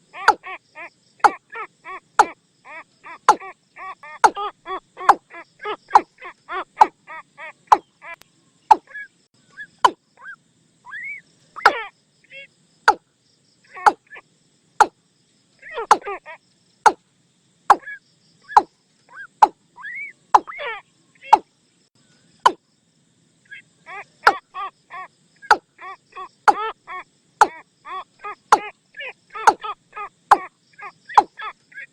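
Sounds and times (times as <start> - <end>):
watercock calls: 0.0 - 13.0, 15.6 - 17.0, 17.7 - 21.5, 23.5 - 31.9.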